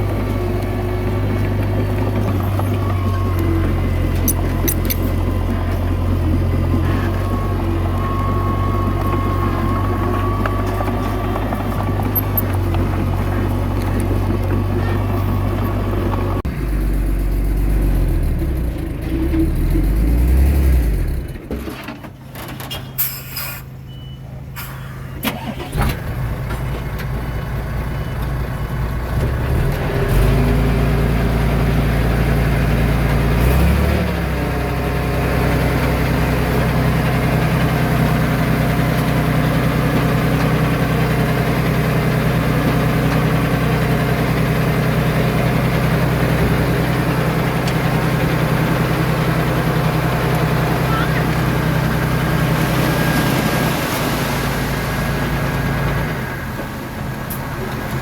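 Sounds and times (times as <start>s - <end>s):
heavy diesel engine running: 0.0s - 22.4s, 23.7s - 58.0s.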